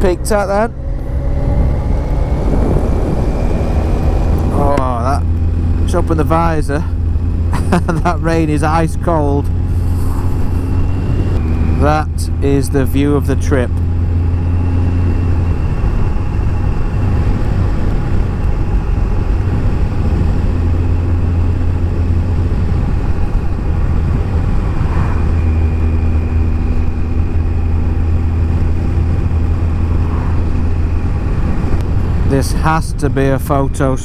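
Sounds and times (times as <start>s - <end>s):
motorcycle engine cruising: 0.0s - 34.0s
road noise: 0.0s - 34.0s
wind noise: 0.0s - 34.0s.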